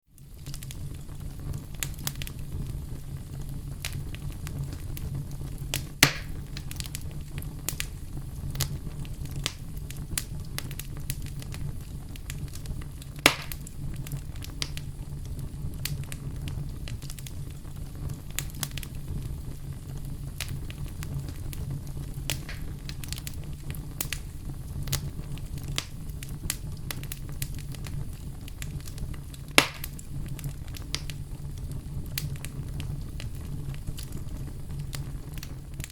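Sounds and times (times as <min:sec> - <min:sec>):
wood fire crackling: 0:00.1 - 0:35.9
loud fire pops: 0:00.2 - 0:35.9.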